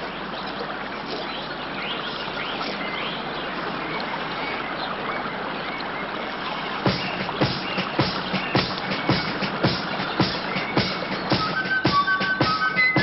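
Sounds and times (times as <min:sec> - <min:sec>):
birds chirping: 0:00.0 - 0:13.0
flowing river water: 0:00.0 - 0:13.0.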